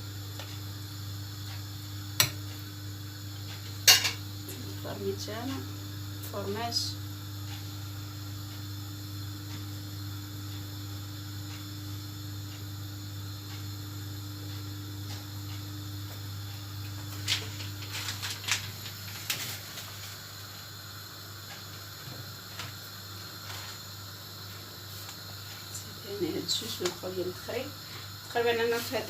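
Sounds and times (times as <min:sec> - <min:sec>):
low hum with faint hiss: 0:00.0 - 0:29.0.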